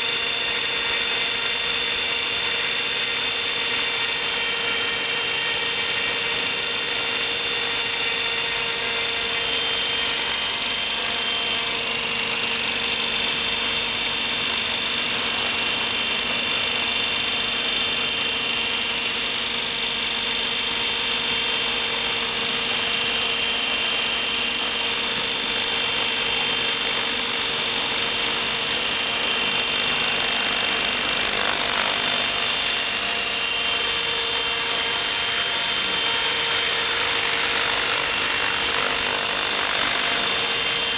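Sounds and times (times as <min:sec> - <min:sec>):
motor and gear whine: 0:00.0 - 0:40.9
rotor blades rushing: 0:01.4 - 0:40.9.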